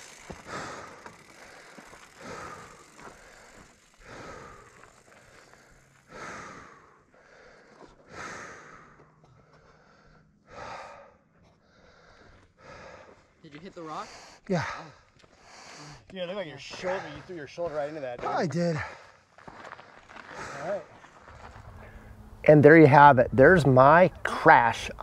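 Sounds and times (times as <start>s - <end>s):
man breathing heavily: 0.1s - 16.1s, 18.3s - 22.3s.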